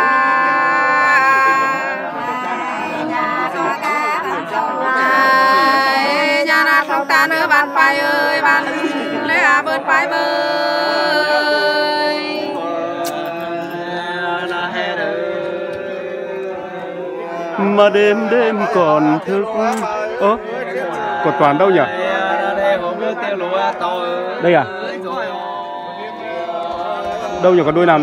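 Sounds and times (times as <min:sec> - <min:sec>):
folk singing voices: 0:00.0 - 0:28.0.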